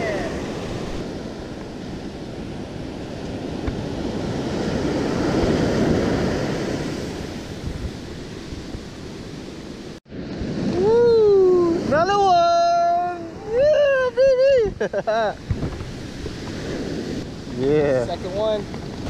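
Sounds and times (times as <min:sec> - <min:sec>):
ocean surf breaking on beach: 0:00.0 - 0:19.0.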